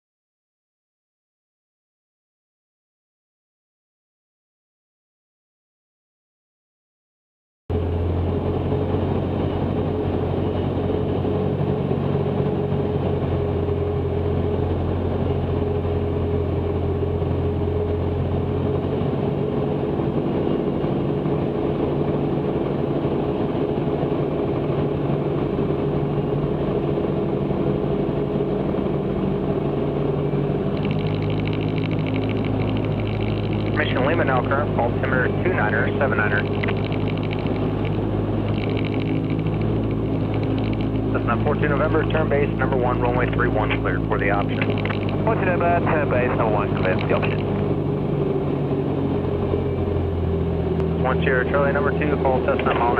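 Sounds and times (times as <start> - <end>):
airplane engine drone in cabin: 7.7 - 52.9.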